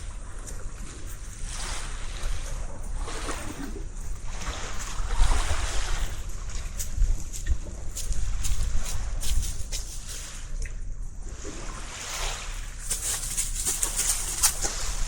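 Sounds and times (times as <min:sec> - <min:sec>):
small waves washing on beach: 0:00.0 - 0:10.6, 0:11.2 - 0:15.0
wind buffeting microphone: 0:00.0 - 0:15.0.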